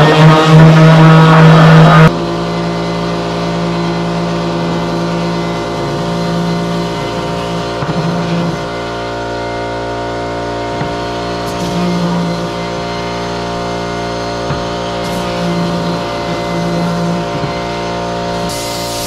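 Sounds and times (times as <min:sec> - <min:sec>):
power tool motor running: 0:00.0 - 0:19.0
steady hum of held tones: 0:00.0 - 0:19.0.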